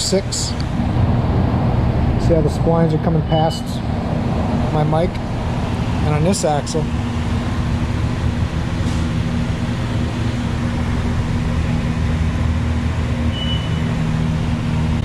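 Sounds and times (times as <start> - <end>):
machine humming and rushing: 0.0 - 15.0.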